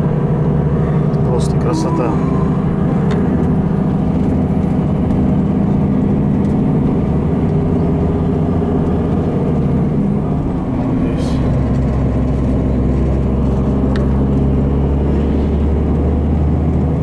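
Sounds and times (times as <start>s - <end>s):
low engine hum: 0.0s - 17.0s
road noise: 0.0s - 17.0s.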